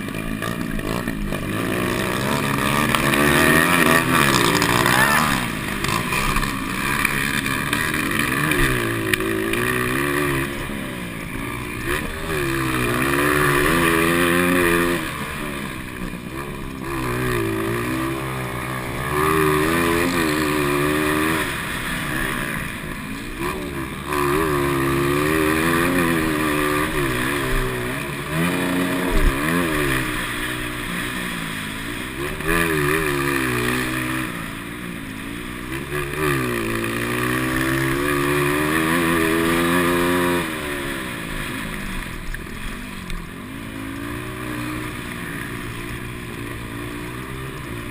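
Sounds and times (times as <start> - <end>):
motocross engines racing: 0.0 - 47.9.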